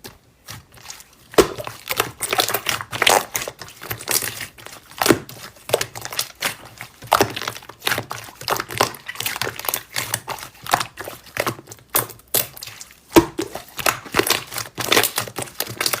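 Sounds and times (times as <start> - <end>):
slime squished by hand: 0.1 - 16.0.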